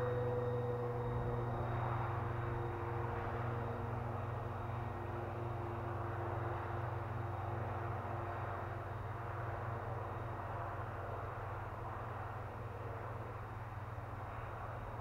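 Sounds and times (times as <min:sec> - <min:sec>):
constant low rumble: 0:00.0 - 0:15.0
model plane motors humming: 0:00.0 - 0:15.0.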